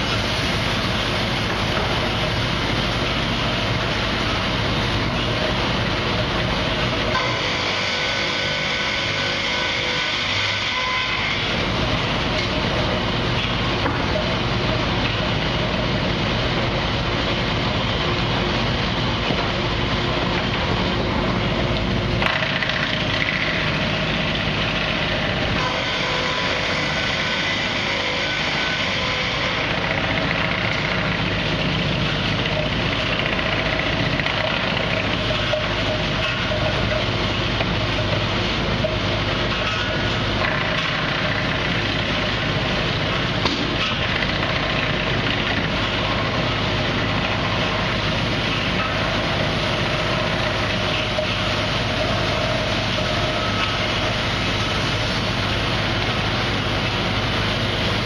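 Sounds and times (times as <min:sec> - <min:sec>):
sawmill machinery din: 0:00.0 - 0:58.0.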